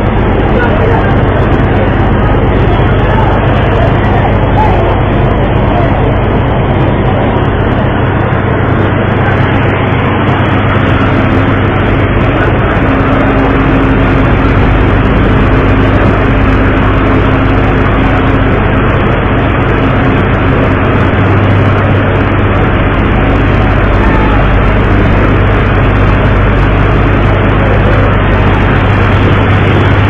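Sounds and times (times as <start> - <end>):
boat engine humming: 0.0 - 30.0
water rushing: 0.0 - 30.0
wind: 0.0 - 30.0.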